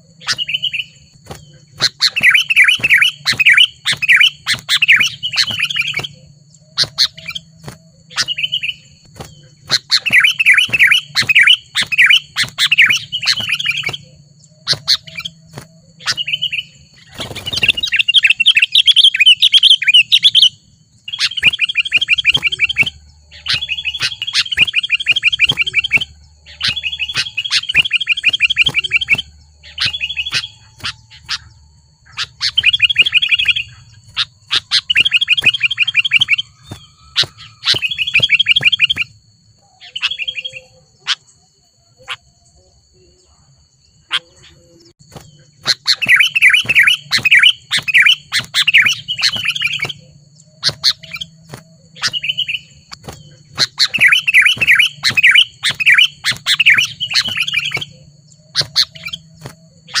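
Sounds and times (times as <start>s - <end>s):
birds chattering: 0.0s - 60.0s.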